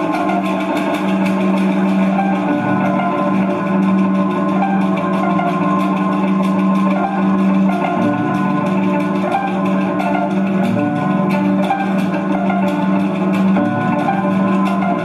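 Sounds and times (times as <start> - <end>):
low droning electronic tones: 0.0 - 15.0.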